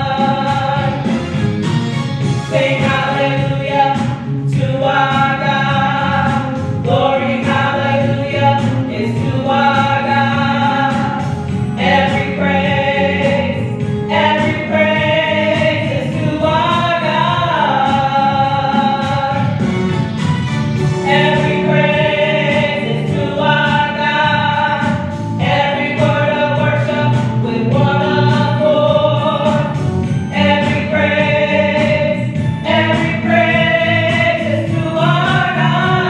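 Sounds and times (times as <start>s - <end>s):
gospel choir singing: 0.0s - 36.0s.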